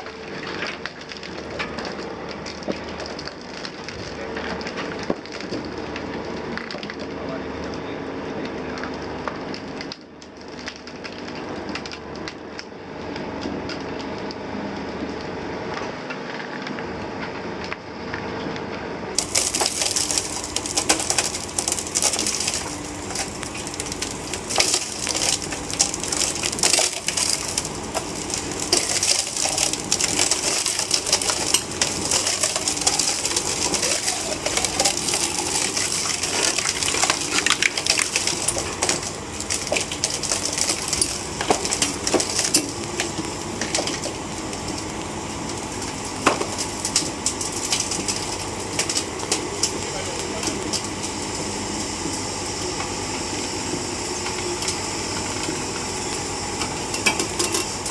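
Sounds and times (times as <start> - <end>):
excavator tracks crunching over timber: 0.0 - 12.4, 19.1 - 57.9.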